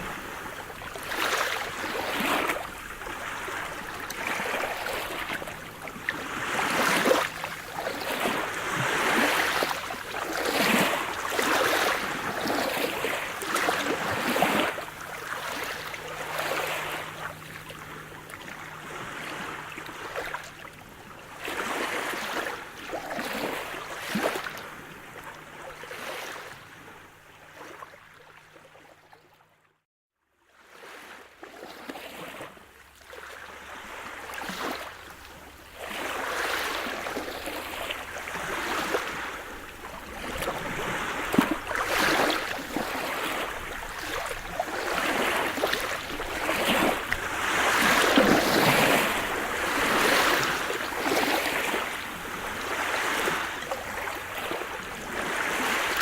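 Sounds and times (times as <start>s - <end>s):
waves breaking and washing in: 0.0s - 28.5s, 30.5s - 56.0s.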